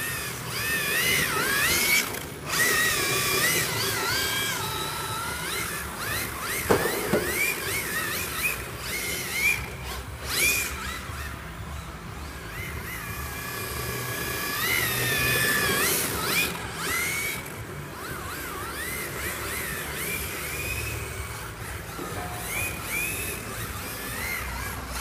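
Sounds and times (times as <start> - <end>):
toy car electric motors whining: 0.0 - 25.0.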